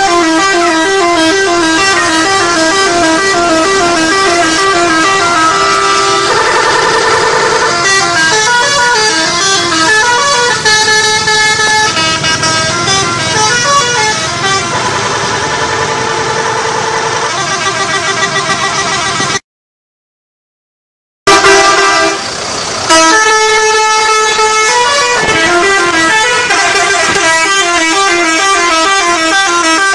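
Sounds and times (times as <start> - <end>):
bus horn playing a tune: 0.0 - 19.4, 21.3 - 29.9.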